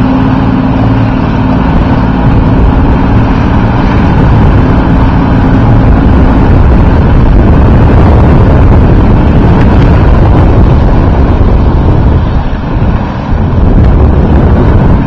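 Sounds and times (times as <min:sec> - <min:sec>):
motorboat engine rumble: 0:00.0 - 0:15.0
wind buffeting microphone: 0:00.0 - 0:15.0.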